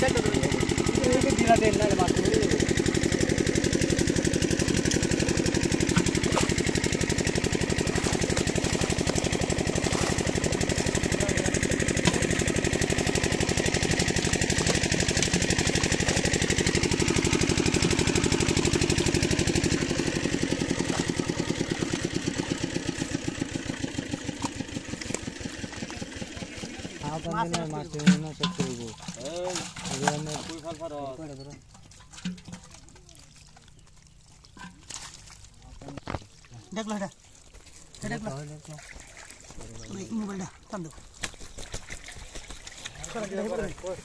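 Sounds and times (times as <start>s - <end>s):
boat engine chugging: 0.0s - 35.8s.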